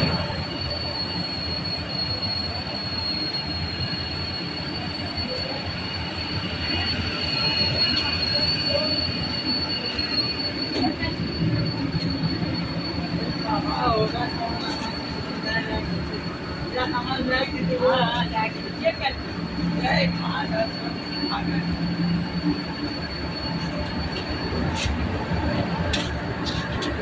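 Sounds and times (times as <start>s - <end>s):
high-pitched whine: 0.0s - 27.0s.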